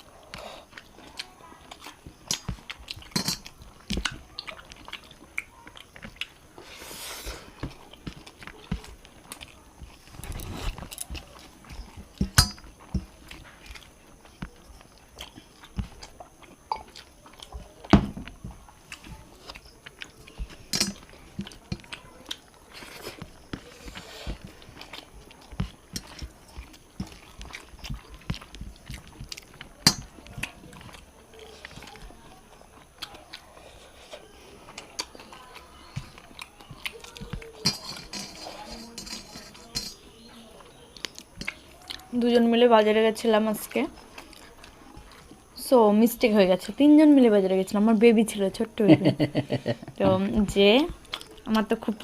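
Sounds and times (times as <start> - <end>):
people chewing food: 0.0 - 52.0.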